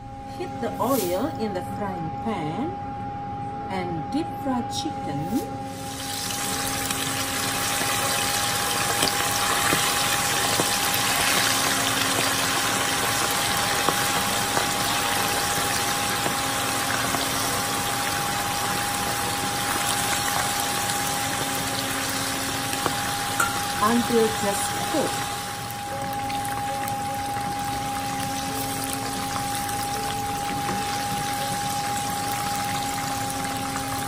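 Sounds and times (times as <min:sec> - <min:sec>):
steady hum: 0:00.0 - 0:34.0
chicken deep-frying in oil: 0:05.7 - 0:34.0.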